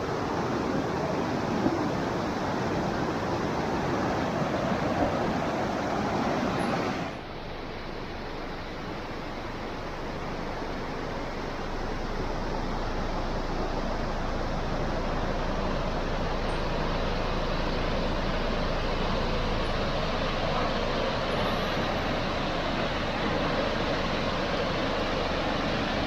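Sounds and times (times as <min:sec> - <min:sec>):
rushing water: 0:00.0 - 0:26.0.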